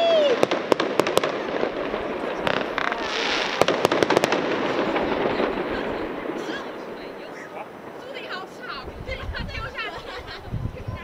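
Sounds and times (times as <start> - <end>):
fireworks popping and banging: 0.0 - 10.0
crackling hiss: 0.0 - 10.6.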